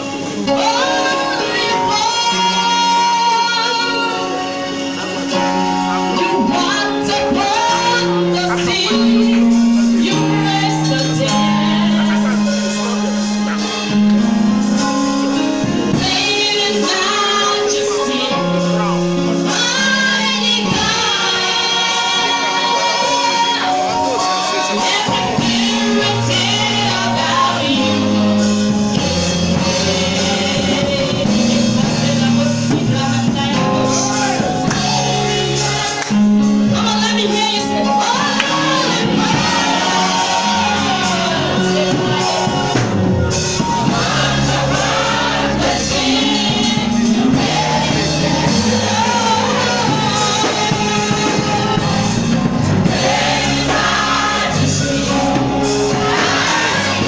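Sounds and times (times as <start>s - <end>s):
band accompaniment: 0.0s - 57.0s
choir singing gospel: 0.0s - 57.0s.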